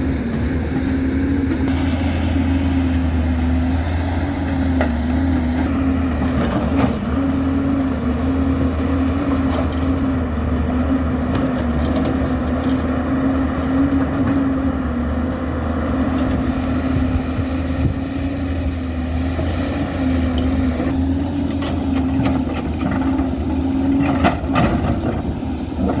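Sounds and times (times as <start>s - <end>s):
diesel machinery engine running: 0.0s - 26.0s.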